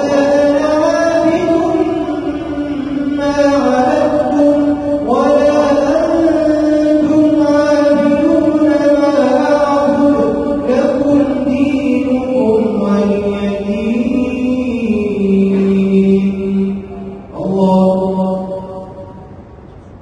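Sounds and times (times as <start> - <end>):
man chanting melodically: 0.0 - 19.4.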